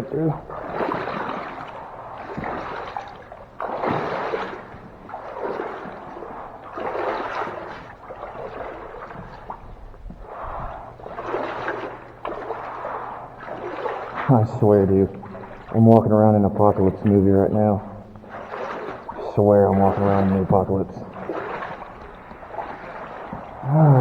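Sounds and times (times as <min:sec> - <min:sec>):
boots wading through water: 0:00.0 - 0:24.0.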